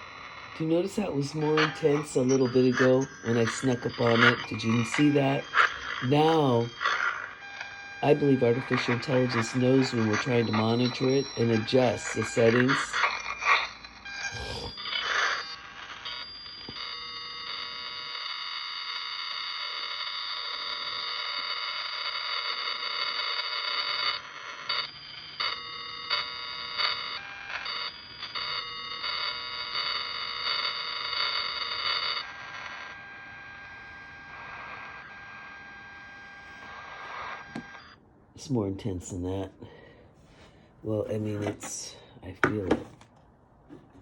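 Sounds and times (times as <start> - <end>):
buzzy electronic whine: 0.0 - 39.3.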